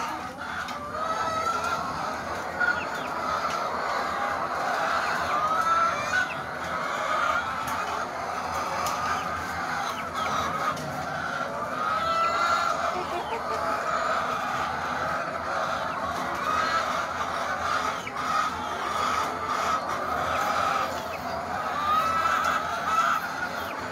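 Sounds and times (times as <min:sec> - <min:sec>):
hens clucking: 0:00.0 - 0:23.9.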